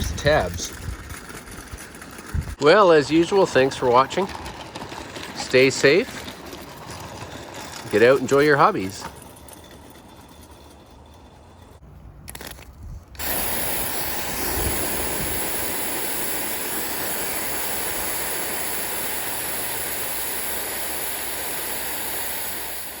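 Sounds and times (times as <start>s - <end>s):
model steam locomotive hissing: 0.0s - 10.4s, 13.2s - 23.0s.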